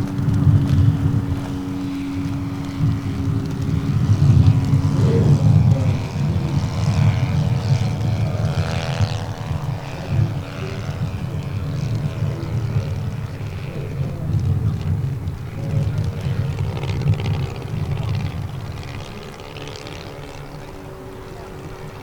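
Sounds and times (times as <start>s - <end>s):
model plane engine running: 0.0s - 22.0s
wind rumbling on microphone: 0.0s - 22.0s.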